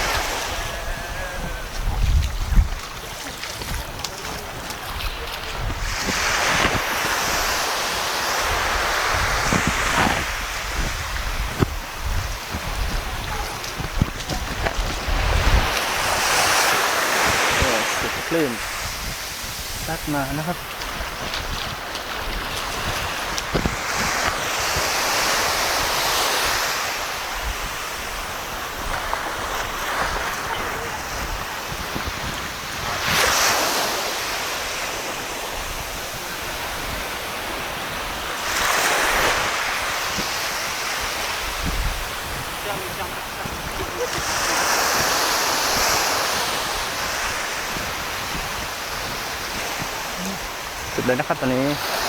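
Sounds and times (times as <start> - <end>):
sea waves breaking on beach: 0.0 - 52.0
wind buffeting microphone: 0.0 - 52.0.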